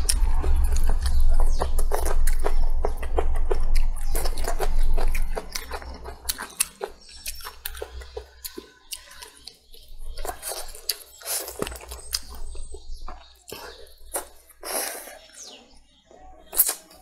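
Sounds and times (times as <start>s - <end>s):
wet chewing and crunching: 0.0s - 15.6s, 16.5s - 17.0s.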